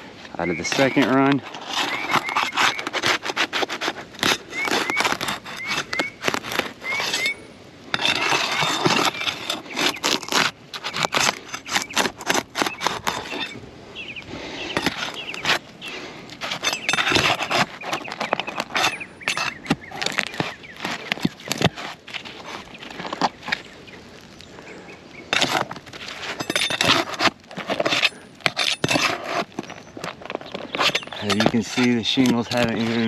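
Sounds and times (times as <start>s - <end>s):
hand tool prying and scraping: 0.0s - 13.6s, 14.6s - 24.3s, 25.2s - 33.0s.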